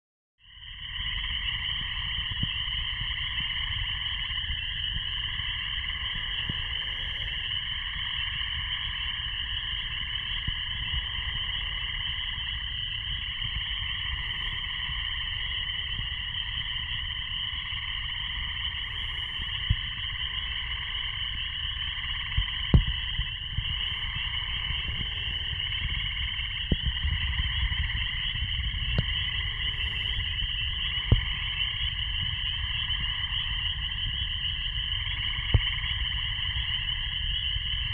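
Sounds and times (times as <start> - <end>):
chorus of frogs trilling: 0.4 - 37.9
low rumble: 0.8 - 37.9.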